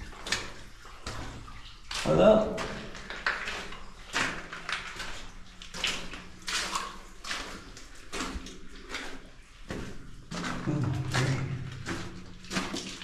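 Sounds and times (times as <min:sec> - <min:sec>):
wading splashes in water: 0:00.0 - 0:13.0.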